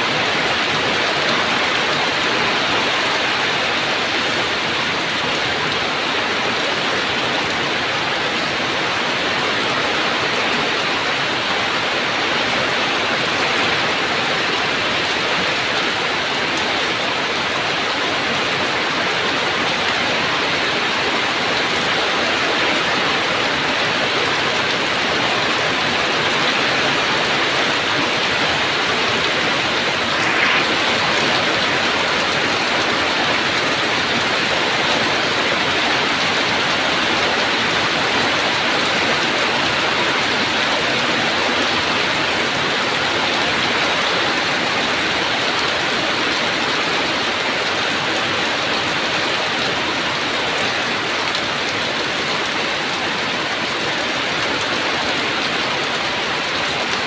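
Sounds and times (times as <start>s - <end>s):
heavy rain: 0.0s - 57.0s
louder rain patter: 0.0s - 57.0s.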